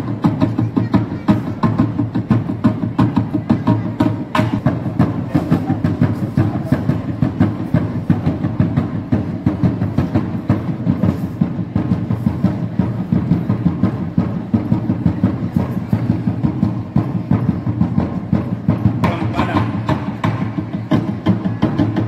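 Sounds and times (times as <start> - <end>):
drum-led music: 0.0 - 22.0.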